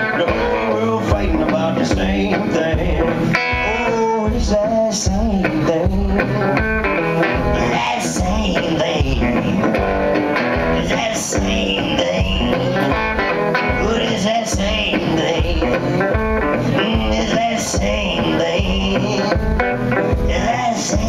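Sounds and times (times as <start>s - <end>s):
electric guitar playing blues: 0.0s - 21.0s.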